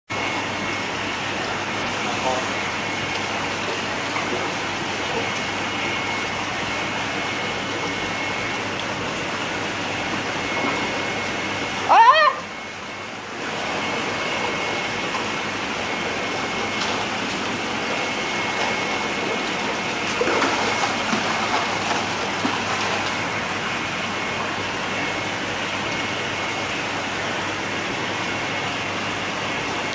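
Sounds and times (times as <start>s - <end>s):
fish splashing in water tank: 0.1s - 29.9s.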